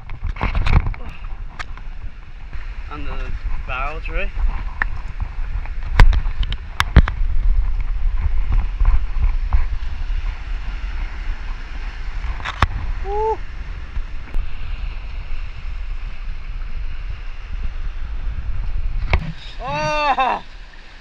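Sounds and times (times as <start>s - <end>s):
surf washing: 0.0s - 21.0s
wind rumbling on microphone: 0.0s - 21.0s.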